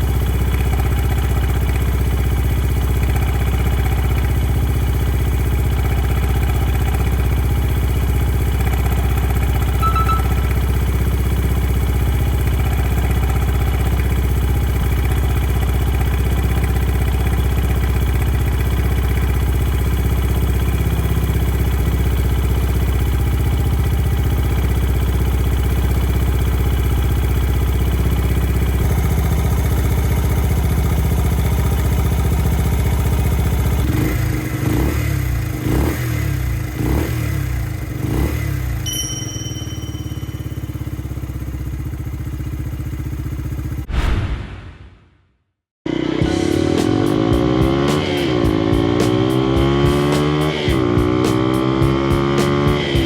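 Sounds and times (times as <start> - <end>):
small engine idling with clatter: 0.0 - 43.8.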